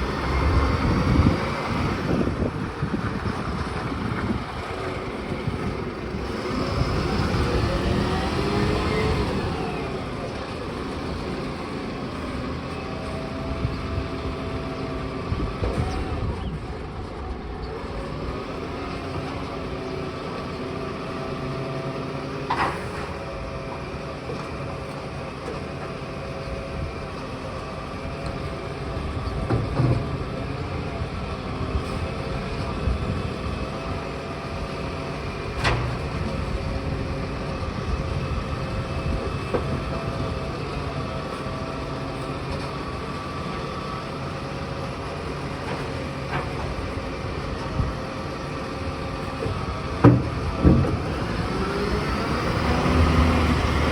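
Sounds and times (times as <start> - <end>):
garbage truck running: 0.0 - 53.9.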